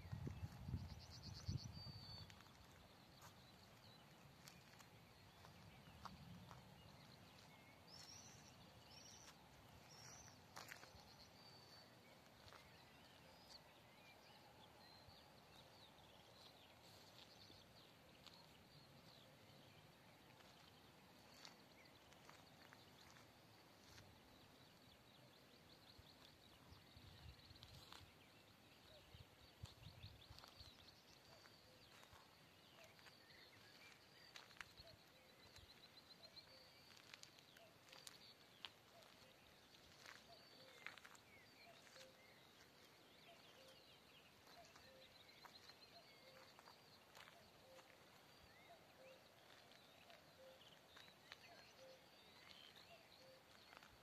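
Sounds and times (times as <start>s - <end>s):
faint high bird chirps: 0.0s - 54.0s.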